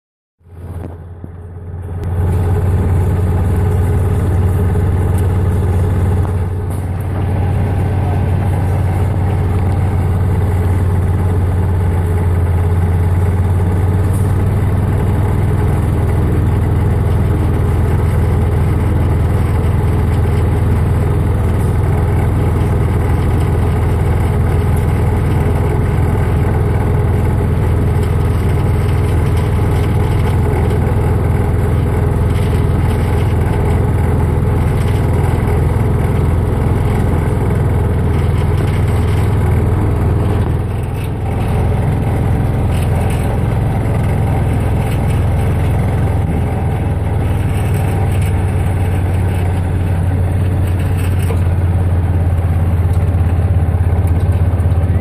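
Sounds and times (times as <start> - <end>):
golf cart engine humming: 0.5 - 55.0.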